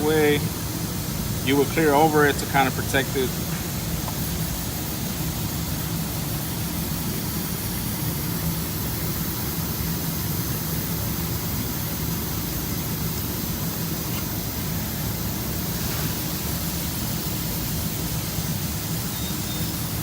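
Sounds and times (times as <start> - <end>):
machine hiss and hum: 0.0 - 20.0.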